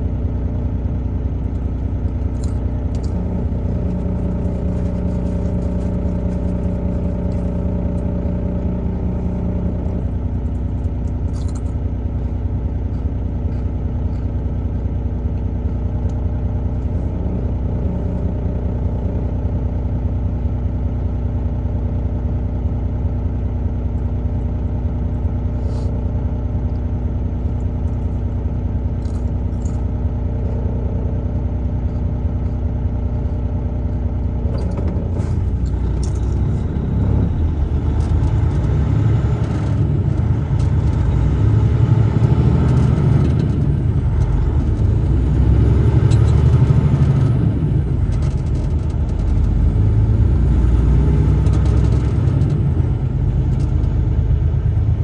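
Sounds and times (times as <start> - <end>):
road noise: 0.0 - 20.9, 23.9 - 55.0
truck engine humming: 0.0 - 55.0.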